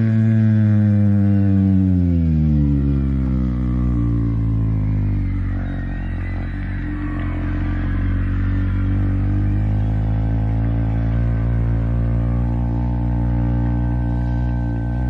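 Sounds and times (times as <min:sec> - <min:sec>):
bass singer holding low note: 0:00.0 - 0:15.0.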